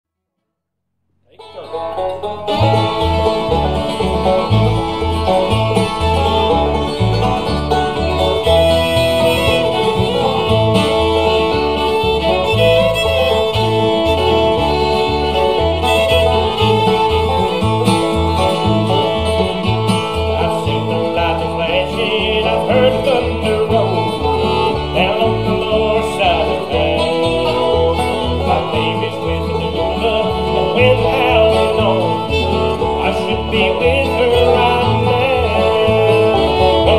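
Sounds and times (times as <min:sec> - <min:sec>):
bass line: 0:01.1 - 0:36.9
acoustic guitar: 0:01.2 - 0:36.9
banjo: 0:01.3 - 0:36.9
bowed fiddle: 0:01.4 - 0:36.9.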